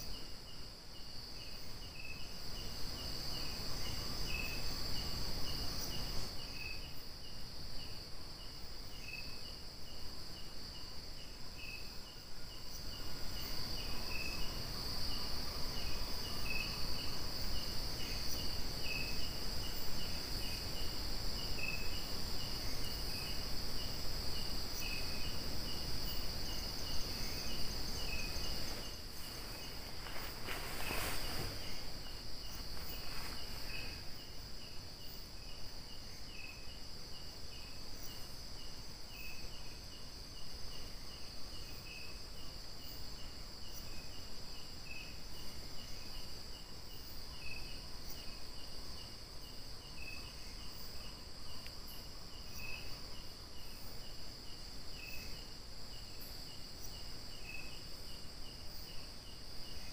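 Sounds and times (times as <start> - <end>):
cricket chirping: 0.0 - 59.9
high-pitched insect trill: 0.0 - 59.9.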